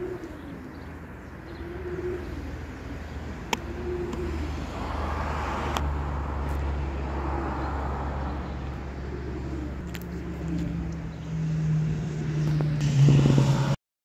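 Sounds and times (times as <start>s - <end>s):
low engine hum: 0.0s - 13.8s
steady low traffic rumble: 0.0s - 13.8s
vehicle passing by: 0.0s - 13.8s.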